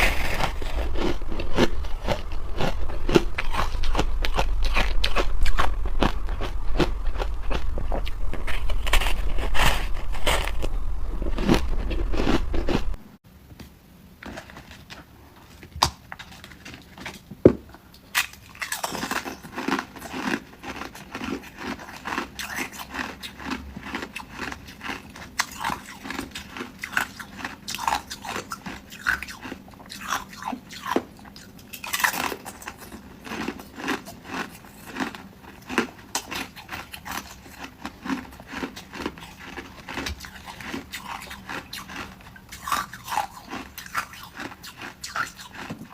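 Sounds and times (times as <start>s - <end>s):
person crunching ice: 0.0s - 13.0s, 18.2s - 31.0s, 31.8s - 45.9s.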